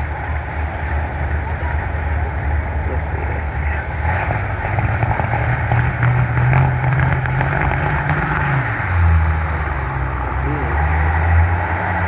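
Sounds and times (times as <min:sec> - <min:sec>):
diesel truck engine at full throttle: 0:00.0 - 0:12.0.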